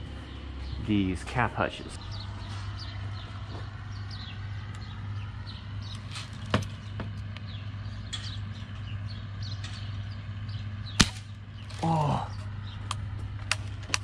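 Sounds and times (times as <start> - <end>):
sparrows chirping: 0.0 - 14.0
steady low hum: 0.0 - 14.0.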